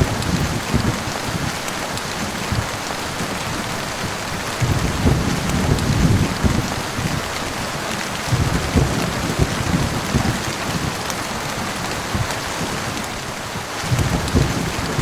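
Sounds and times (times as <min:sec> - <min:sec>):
heavy rain falling: 0:00.0 - 0:15.0
low rumble of thunder: 0:00.0 - 0:15.0.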